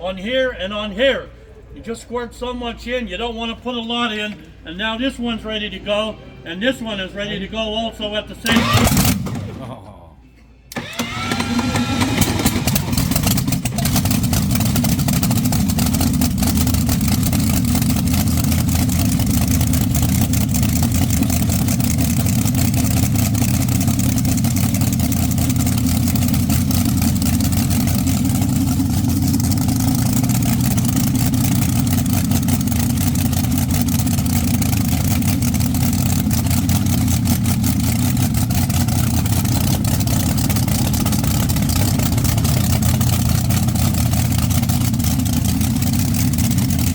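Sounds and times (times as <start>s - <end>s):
dragster engines idling: 0.0s - 10.0s, 10.7s - 46.9s.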